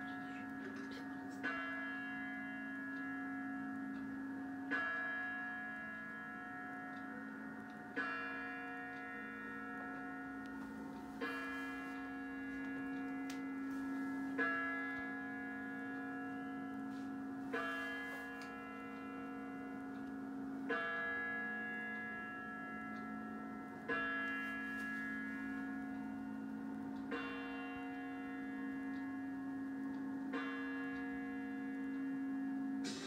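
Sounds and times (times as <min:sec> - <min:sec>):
clock bell strokes: 0:00.0 - 0:33.0.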